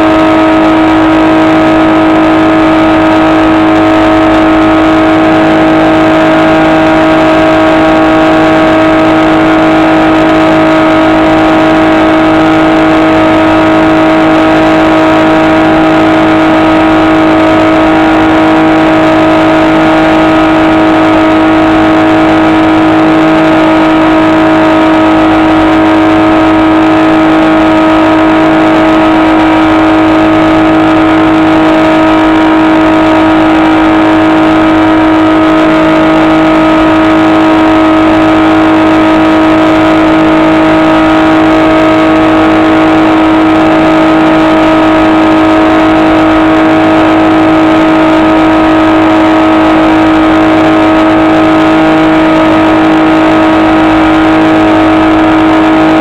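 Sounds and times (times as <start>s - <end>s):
electric motor and propeller humming: 0.0s - 56.0s.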